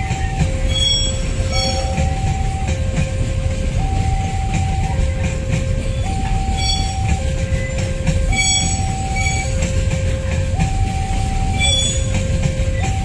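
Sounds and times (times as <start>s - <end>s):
two-note electronic warning tone: 0.0s - 9.6s, 10.4s - 12.2s
train wheels rumbling on rails: 0.0s - 13.0s.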